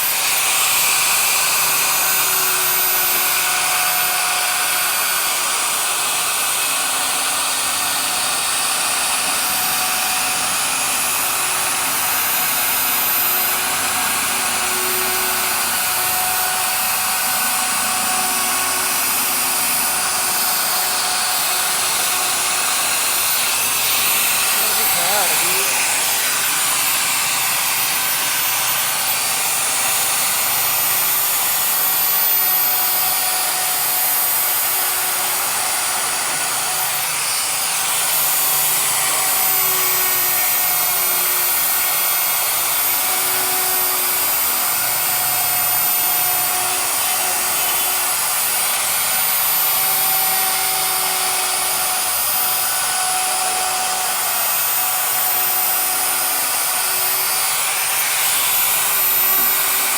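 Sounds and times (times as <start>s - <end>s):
electric power tool motor whirring: 0.0s - 59.9s.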